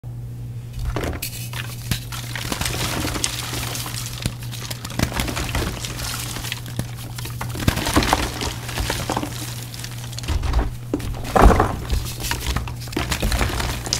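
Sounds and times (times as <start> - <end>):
steady low hum: 0.0 - 13.9
chalk blocks crunching: 0.8 - 13.9.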